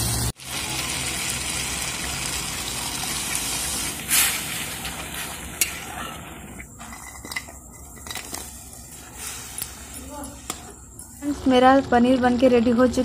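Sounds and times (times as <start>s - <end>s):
water sizzling in hot pan: 0.0s - 7.3s, 7.9s - 11.5s.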